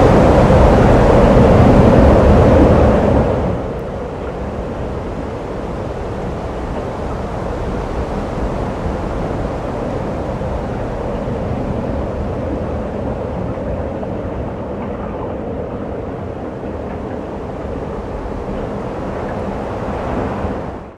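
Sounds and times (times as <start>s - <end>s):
wind rumbling on microphone: 0.0s - 20.9s.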